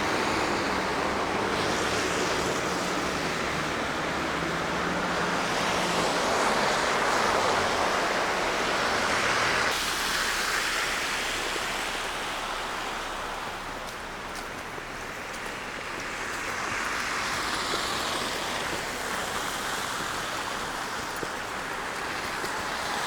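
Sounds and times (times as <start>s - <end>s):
tyres hissing over slush: 0.0s - 23.0s.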